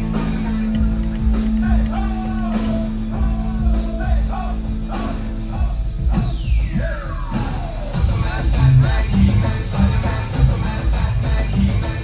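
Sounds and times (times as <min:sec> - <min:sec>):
rock music with singing: 0:00.0 - 0:12.0.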